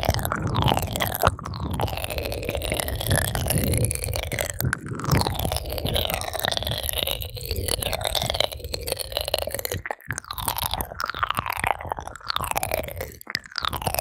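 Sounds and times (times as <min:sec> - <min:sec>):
ear pick scratching microphone: 0:00.0 - 0:14.0.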